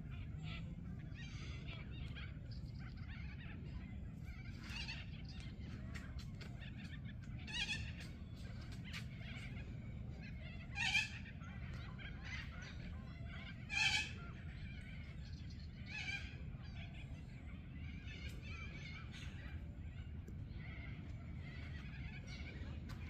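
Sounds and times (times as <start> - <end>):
harsh bird calls: 0.0 - 23.0
wind rumble: 0.0 - 23.0.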